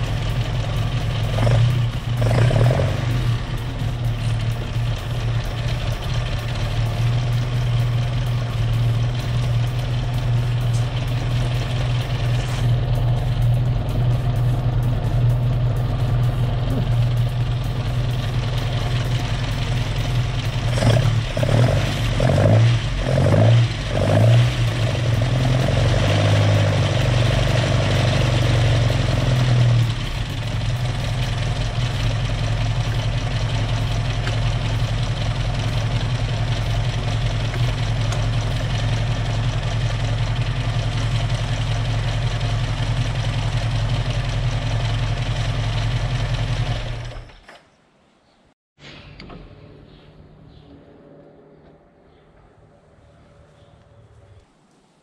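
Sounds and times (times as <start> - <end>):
car engine revving and idling: 0.0 - 47.3.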